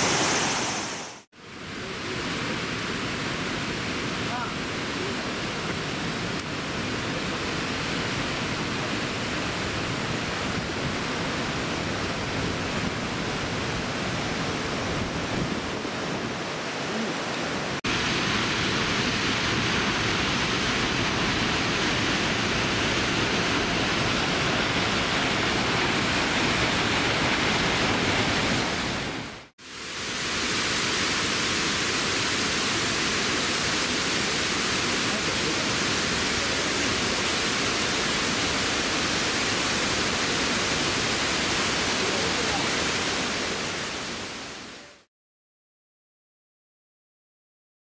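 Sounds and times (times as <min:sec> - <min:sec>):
waterfall rushing into pools: 0:00.0 - 0:45.1.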